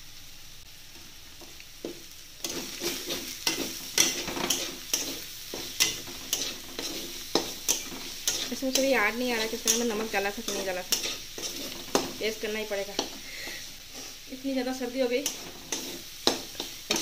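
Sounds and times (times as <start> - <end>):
greens sizzling in oil: 0.0 - 17.0
metal spatula scraping pan: 2.4 - 14.2, 15.0 - 17.0.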